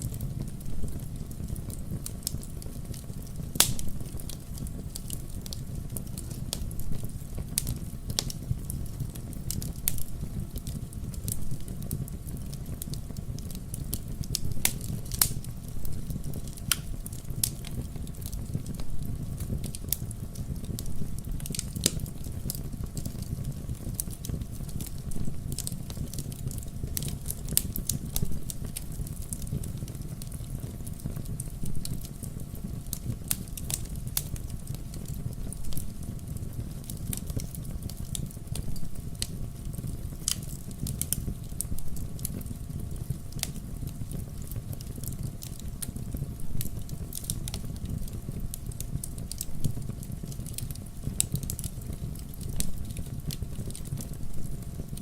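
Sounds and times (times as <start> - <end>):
logs crackling and popping: 0.0 - 55.0
low rumble of flame: 0.0 - 55.0.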